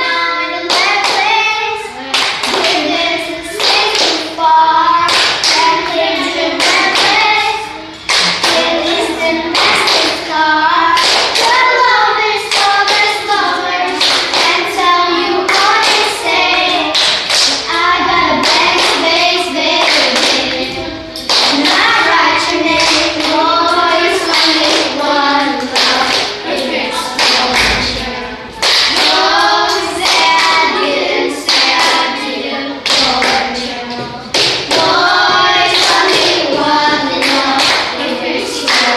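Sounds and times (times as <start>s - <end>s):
hands clapping a beat: 0.0s - 7.4s, 8.0s - 32.2s, 32.8s - 38.9s
children singing: 0.0s - 38.9s.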